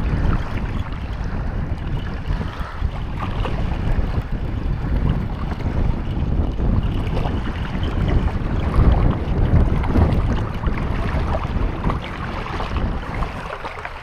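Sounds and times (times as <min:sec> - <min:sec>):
water washing against shore: 0:00.0 - 0:14.0
wind buffeting microphone: 0:00.0 - 0:14.0.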